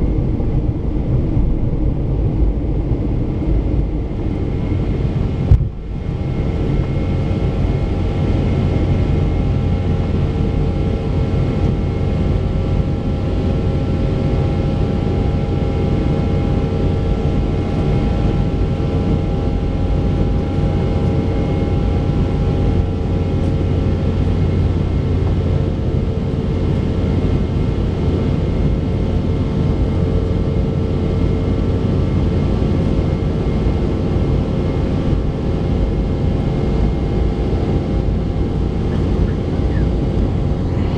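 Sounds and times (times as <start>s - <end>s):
jet engine rumble in cabin: 0.0s - 40.9s
steady whining tones: 0.0s - 40.9s.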